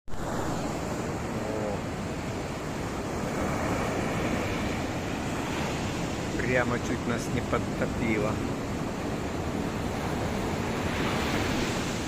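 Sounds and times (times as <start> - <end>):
surf breaking on beach: 0.1 - 12.0
wind on microphone: 0.1 - 12.0.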